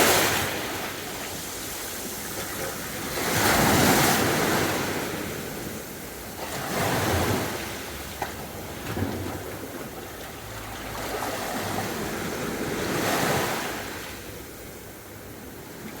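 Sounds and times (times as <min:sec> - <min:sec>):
sea waves breaking on beach: 0:00.0 - 0:14.5.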